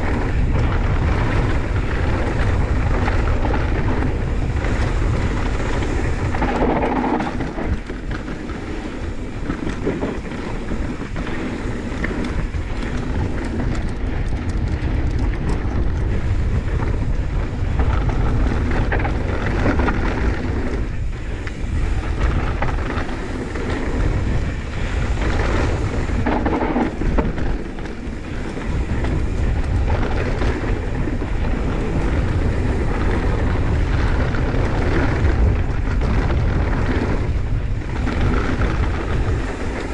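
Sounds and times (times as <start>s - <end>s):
bike tyres rolling on dirt: 0.0s - 39.9s
wind buffeting microphone: 0.0s - 39.9s.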